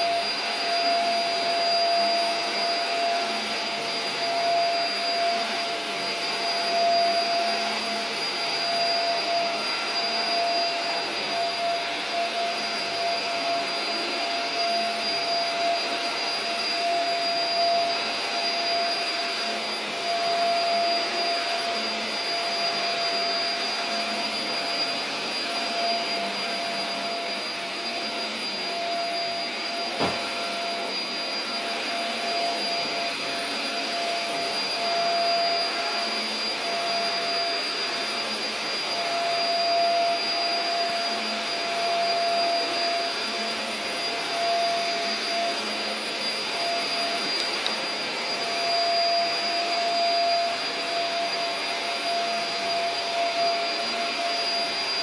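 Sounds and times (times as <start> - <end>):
vacuum cleaner whine: 0.0 - 55.0.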